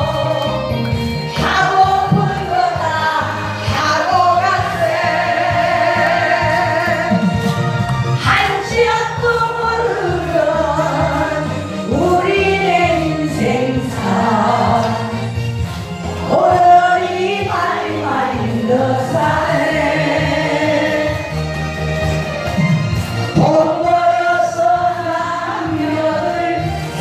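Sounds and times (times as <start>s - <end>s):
trot song backing track: 0.0s - 27.0s
voices singing together: 0.0s - 27.0s.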